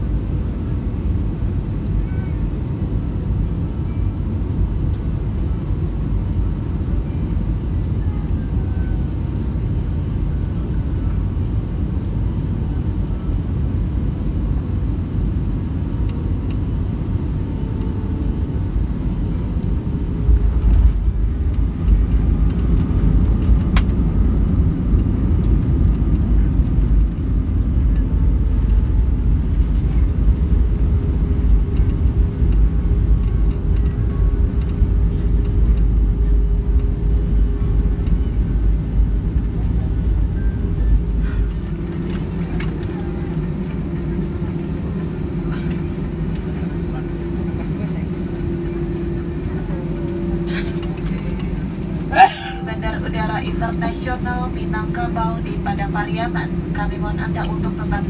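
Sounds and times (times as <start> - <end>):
jet cabin rumble: 0.0 - 58.0.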